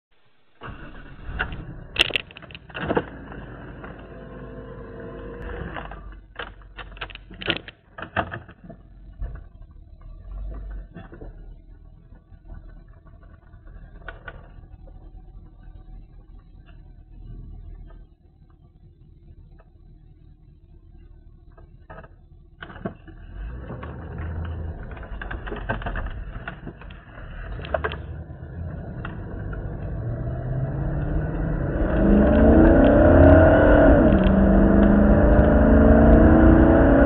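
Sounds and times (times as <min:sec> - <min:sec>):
car engine idling: 0:00.2 - 0:37.0.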